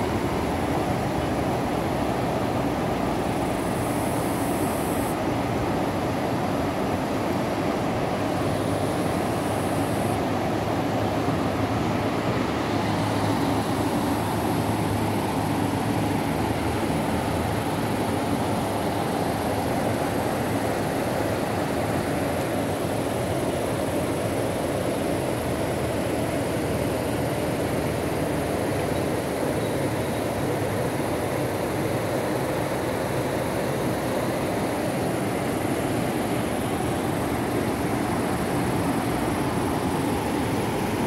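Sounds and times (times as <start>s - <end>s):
river rushing over rocks: 0.0s - 41.0s.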